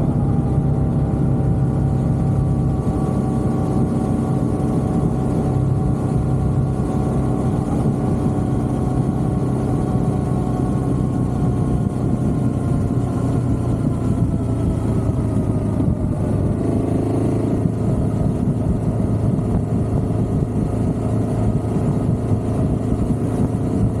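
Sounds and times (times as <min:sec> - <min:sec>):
vehicle engine running: 0:00.0 - 0:24.0
wind and road noise: 0:00.0 - 0:24.0.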